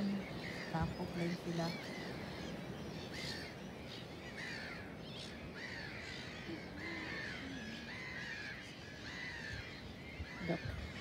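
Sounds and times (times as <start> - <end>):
flock of gulls calling: 0.0 - 11.0.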